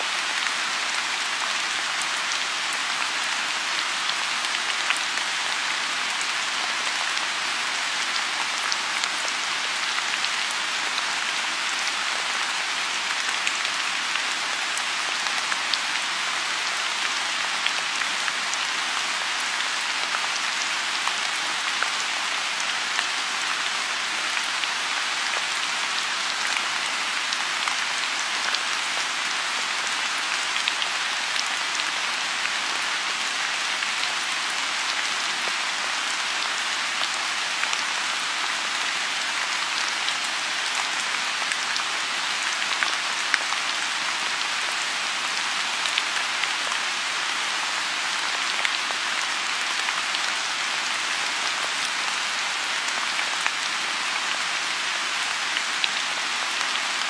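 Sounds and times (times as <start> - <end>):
rain falling on pond: 0.0 - 57.0.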